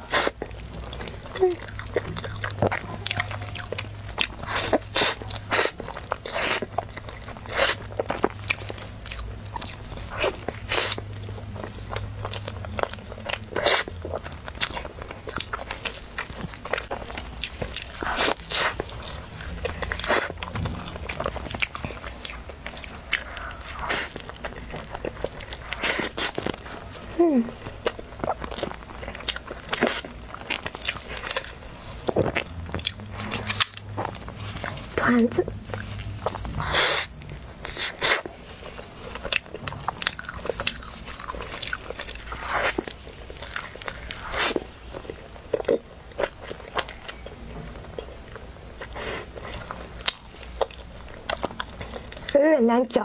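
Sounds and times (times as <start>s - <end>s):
wet crunching and chewing: 0.0s - 53.0s.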